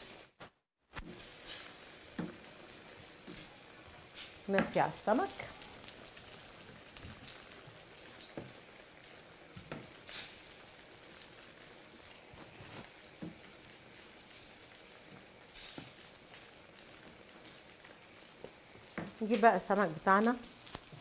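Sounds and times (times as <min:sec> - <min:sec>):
sauce simmering with faint hiss: 0:01.0 - 0:21.0.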